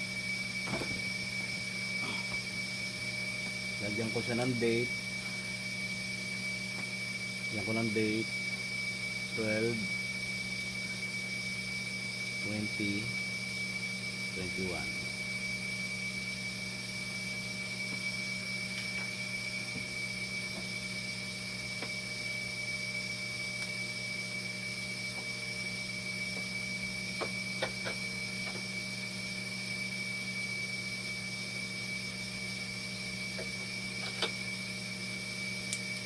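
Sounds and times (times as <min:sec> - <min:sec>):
high-pitched whine: 0:00.0 - 0:36.0
machinery hum: 0:00.0 - 0:36.0.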